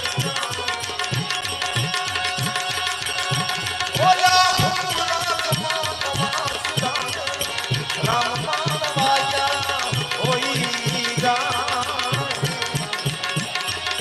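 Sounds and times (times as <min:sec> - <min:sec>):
tabla beat: 0:00.0 - 0:14.0.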